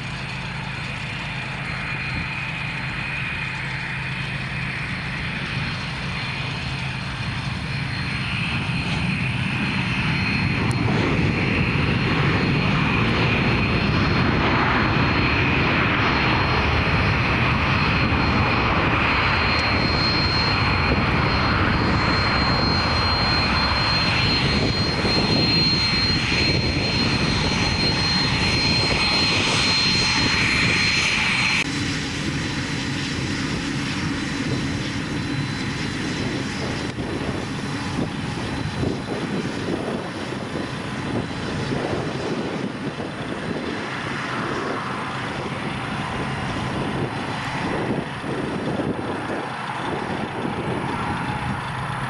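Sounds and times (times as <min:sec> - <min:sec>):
jet engine hum: 0:00.0 - 0:52.0
jet engines roaring: 0:00.0 - 0:52.0.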